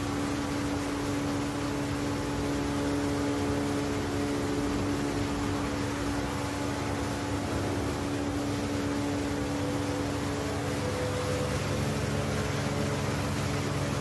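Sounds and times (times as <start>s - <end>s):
constant electric hum: 0.0s - 14.0s.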